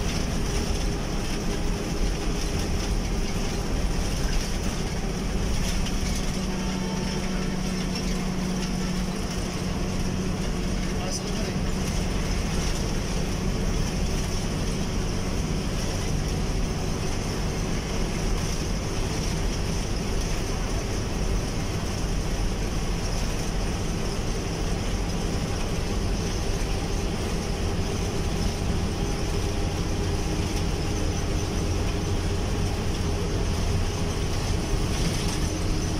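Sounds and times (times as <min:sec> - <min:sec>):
bus engine drone: 0:00.0 - 0:35.9
road noise: 0:00.0 - 0:35.9.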